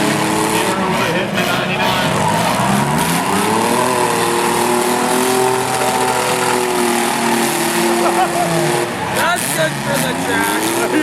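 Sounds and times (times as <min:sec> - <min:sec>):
racing engines running hard: 0:00.0 - 0:11.0.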